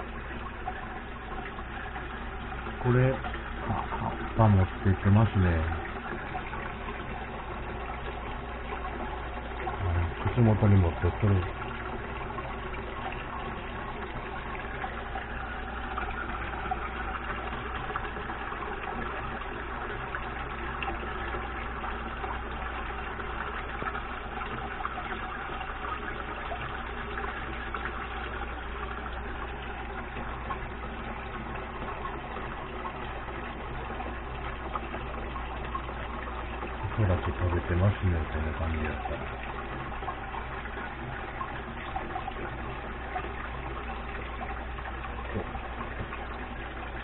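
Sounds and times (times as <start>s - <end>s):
low hum: 0.0s - 47.0s
running water rushing: 0.0s - 47.0s.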